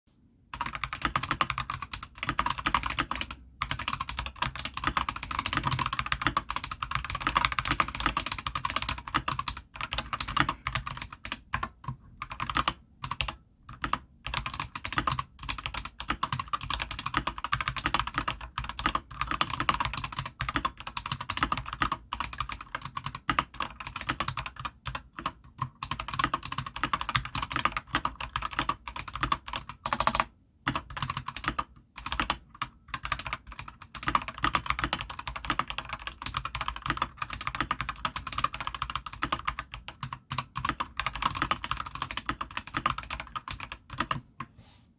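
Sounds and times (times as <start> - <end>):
mechanical keyboard typing: 0.6 - 44.2.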